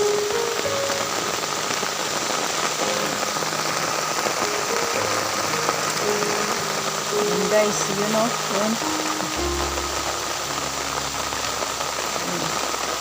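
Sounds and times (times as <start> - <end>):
heavy rain on pond: 0.0 - 13.0.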